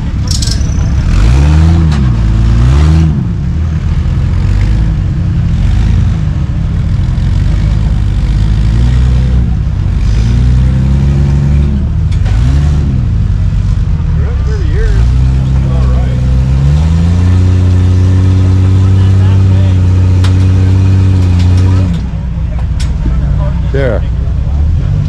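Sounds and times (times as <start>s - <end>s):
buggy engine revving: 0.0s - 25.0s.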